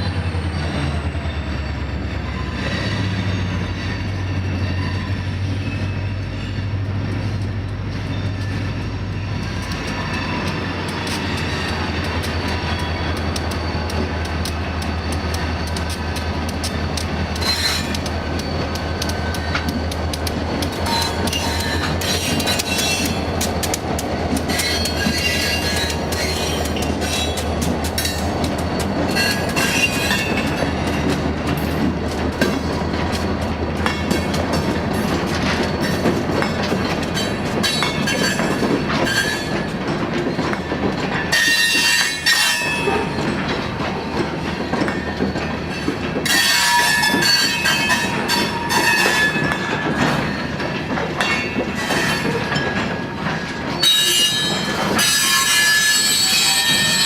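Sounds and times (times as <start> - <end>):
wheel squeal: 0.0 - 20.0, 20.6 - 23.4, 24.4 - 31.1, 35.5 - 39.7, 41.3 - 50.6, 51.2 - 57.0
locomotive engine hum: 0.0 - 55.1
train wheels rumbling and clattering: 0.0 - 57.0.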